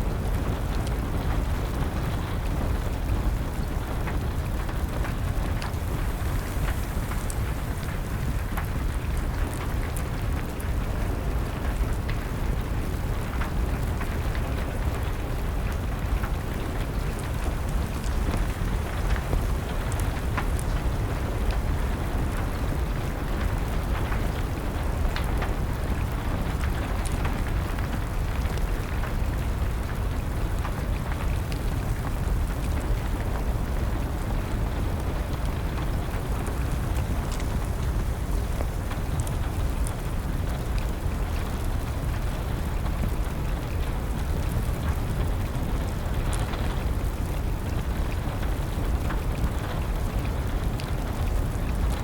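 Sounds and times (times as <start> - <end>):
steady rain rumble: 0.0 - 52.0
wood fire crackling: 0.0 - 52.0.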